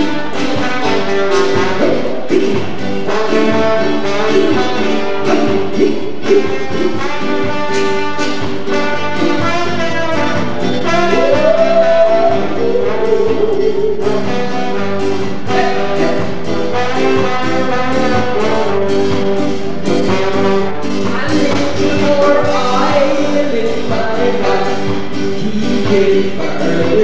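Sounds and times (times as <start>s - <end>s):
band music with horns: 0.0s - 27.0s.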